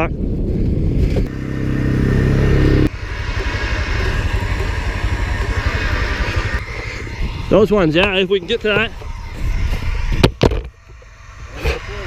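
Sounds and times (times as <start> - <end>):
vehicle engine revving and idling: 1.1 - 12.0.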